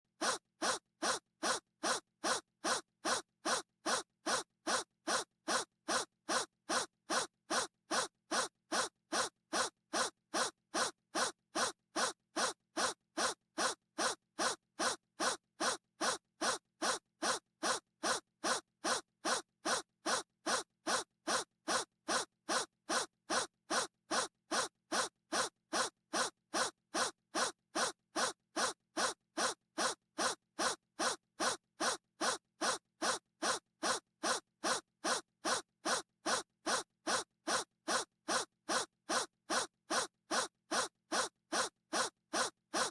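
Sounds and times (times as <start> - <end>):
breathy gasp looped: 0.2 - 42.9.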